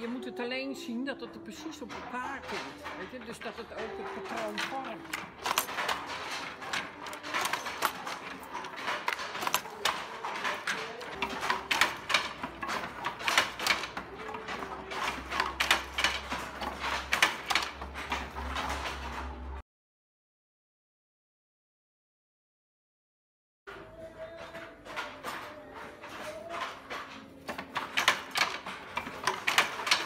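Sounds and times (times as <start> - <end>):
weaving looms clattering: 0.0 - 19.6, 23.7 - 30.0.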